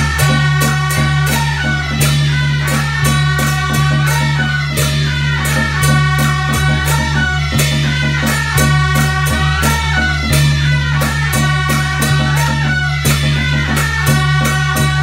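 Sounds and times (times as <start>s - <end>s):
drum and cymbal beat: 0.0s - 15.0s
suona horns playing melody: 0.0s - 15.0s.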